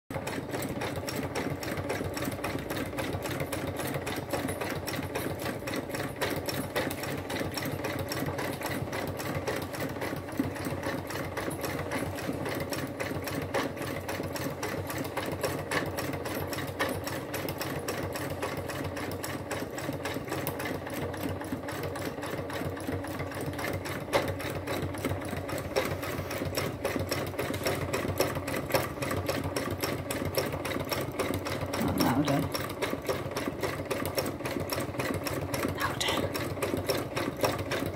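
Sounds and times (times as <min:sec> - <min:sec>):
sewing machine running: 0:00.1 - 0:37.9.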